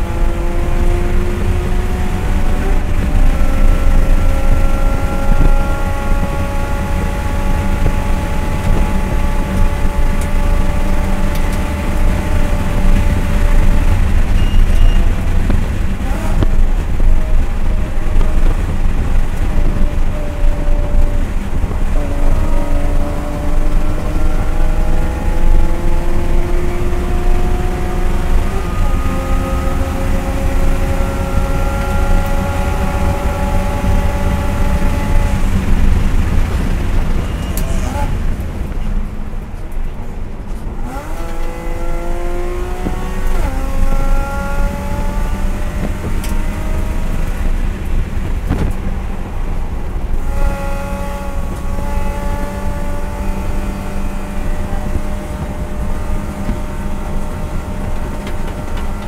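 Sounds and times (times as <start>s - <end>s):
race car engine at high revs: 0.0s - 59.0s
wind and road noise drone: 0.0s - 59.0s.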